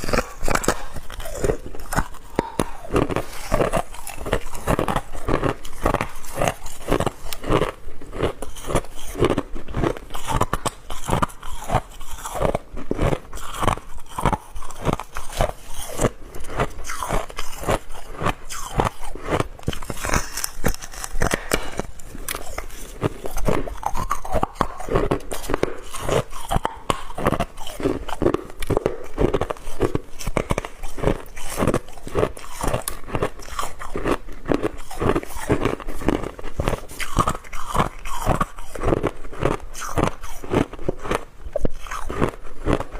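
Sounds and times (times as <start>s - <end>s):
person crunching ice cubes: 0.0s - 42.9s.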